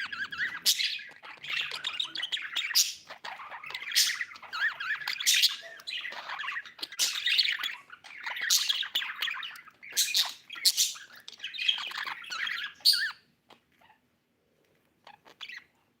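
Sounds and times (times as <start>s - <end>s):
budgerigar chirping: 0.0s - 14.0s, 15.1s - 15.8s.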